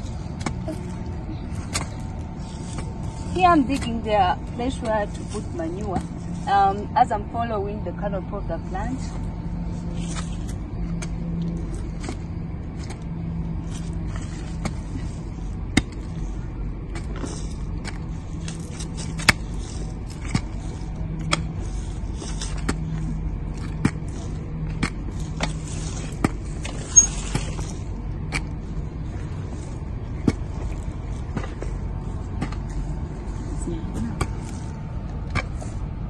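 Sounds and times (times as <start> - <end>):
steady low hum: 0.0 - 36.0
hoe chopping and scraping soil: 1.5 - 6.8, 8.8 - 35.9.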